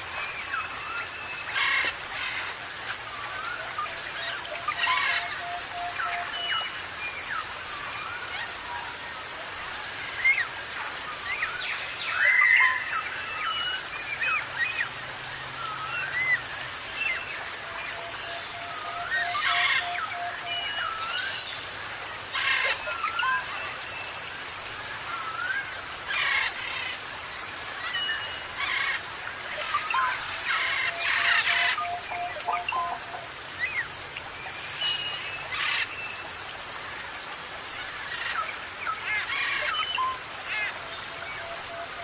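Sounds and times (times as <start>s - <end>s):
background hiss: 0.0s - 42.0s.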